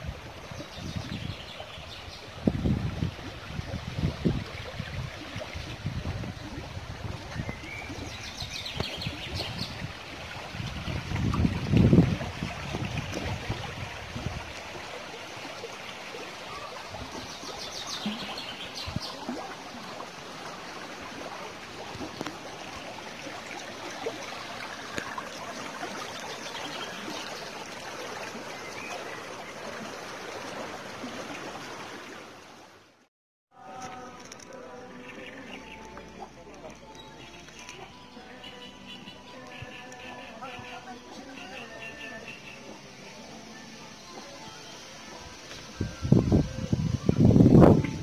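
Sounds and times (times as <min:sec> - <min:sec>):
stream rushing and trickling: 0:00.0 - 0:48.0.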